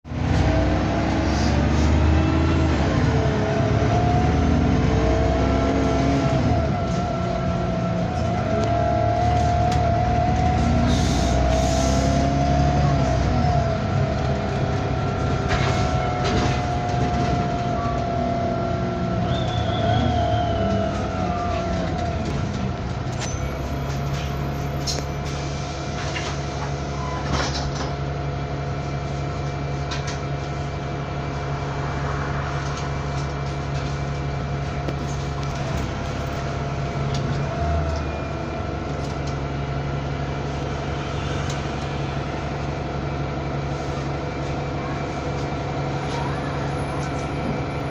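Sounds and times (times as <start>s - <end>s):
bus engine drone: 0.0s - 47.9s.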